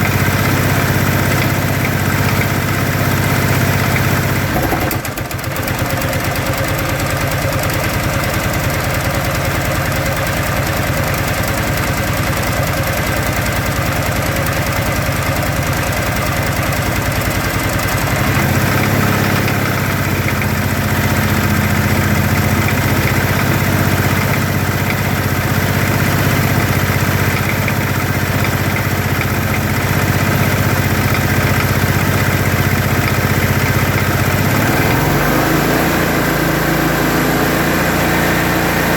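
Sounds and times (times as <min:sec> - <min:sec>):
engine running with rapid knocking: 0:00.0 - 0:38.9.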